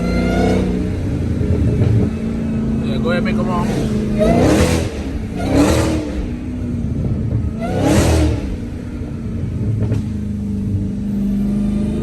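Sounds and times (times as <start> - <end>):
car engine revving: 0.0 - 12.0
steady engine drone: 0.0 - 12.0.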